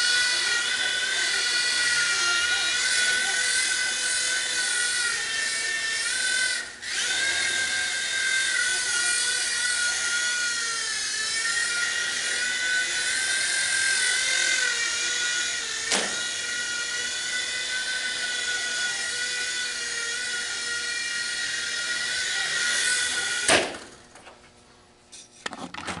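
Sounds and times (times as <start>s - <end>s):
toy helicopter motors whining: 0.0s - 24.2s.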